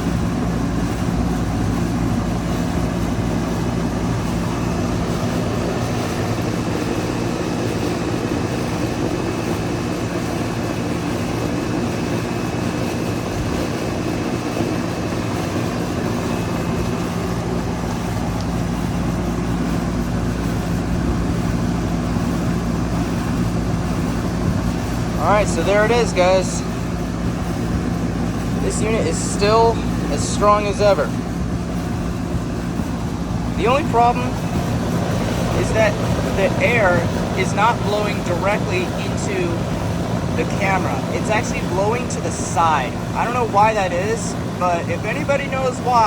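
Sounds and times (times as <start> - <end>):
air conditioner compressor hum: 0.0 - 46.0
condenser fan rushing: 0.0 - 46.0
faint high whine: 0.0 - 46.0.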